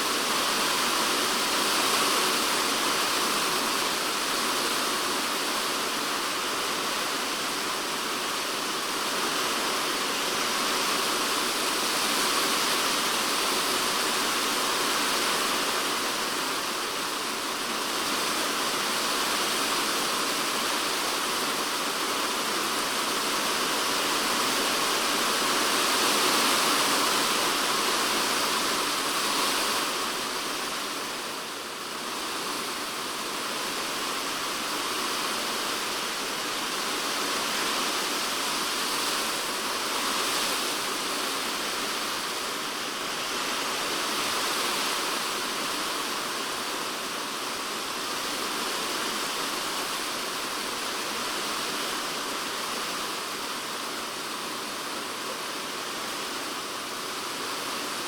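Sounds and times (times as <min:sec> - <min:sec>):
rain on a plastic roof: 0:00.0 - 0:58.0.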